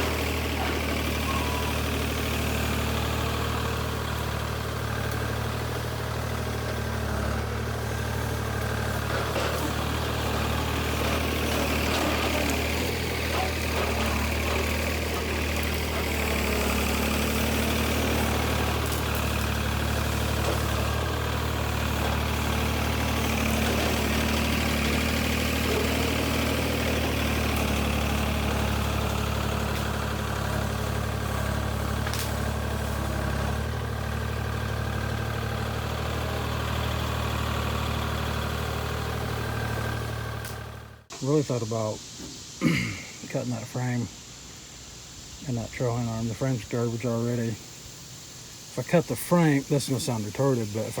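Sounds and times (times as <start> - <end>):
low-pitched engine idling: 0.0 - 41.6.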